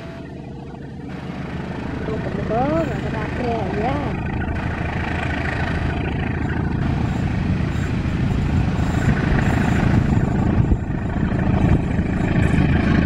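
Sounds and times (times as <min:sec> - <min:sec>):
locomotive engine rumble: 0:00.0 - 0:13.0.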